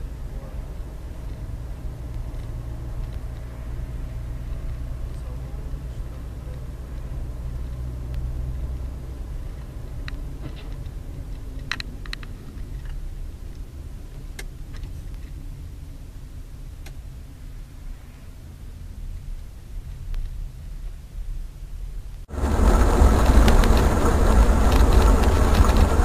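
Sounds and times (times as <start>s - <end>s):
car driving rumble inside: 0.0s - 21.4s, 22.0s - 26.0s.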